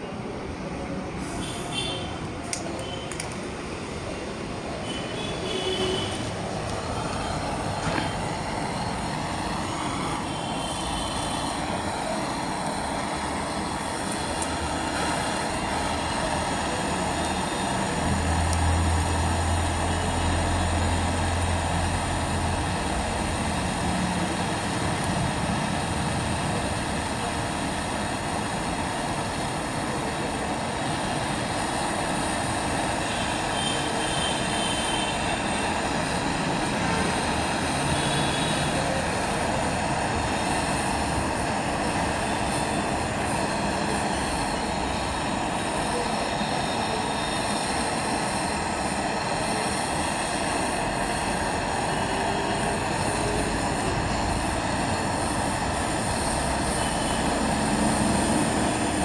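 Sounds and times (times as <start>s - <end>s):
torch flame hissing: 0.1s - 59.0s.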